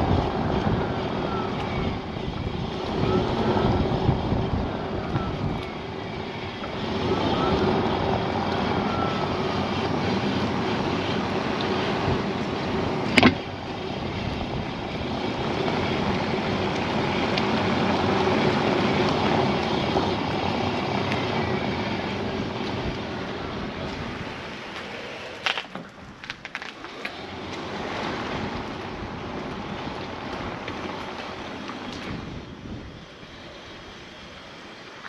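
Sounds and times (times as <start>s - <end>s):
road and tyre rumble: 0.0s - 35.0s.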